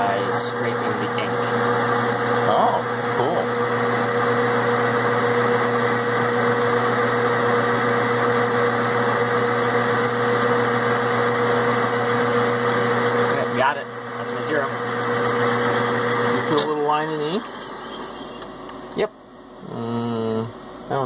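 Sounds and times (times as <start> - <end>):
metal lathe running: 0.0 - 19.0.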